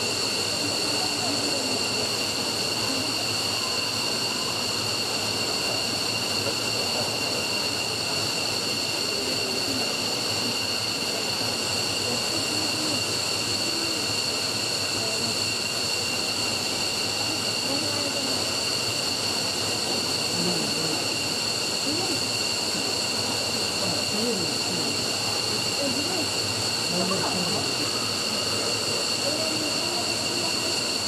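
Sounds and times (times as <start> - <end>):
jet engine whine and rush: 0.0 - 31.0.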